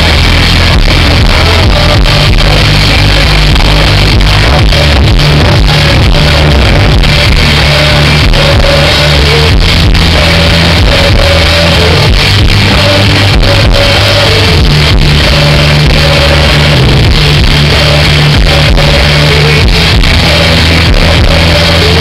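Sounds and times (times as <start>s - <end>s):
person singing: 0.0s - 22.0s.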